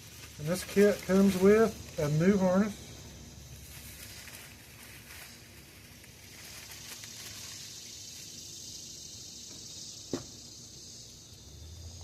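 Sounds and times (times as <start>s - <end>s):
faint high hiss: 0.0s - 12.0s.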